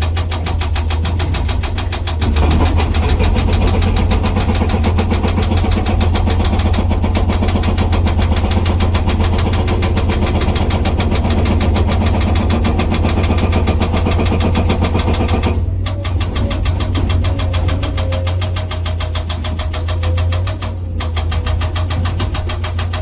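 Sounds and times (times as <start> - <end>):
diesel engine drone: 0.0 - 23.0
hydraulic rock breaker hammering: 0.0 - 23.0.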